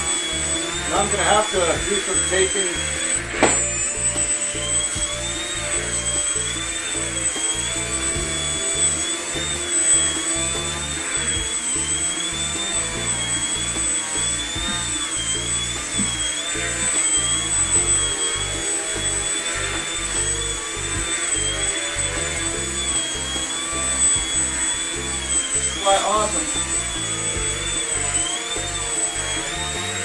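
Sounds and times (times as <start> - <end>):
background music: 0.0 - 30.0
model plane motor whining: 0.0 - 30.0.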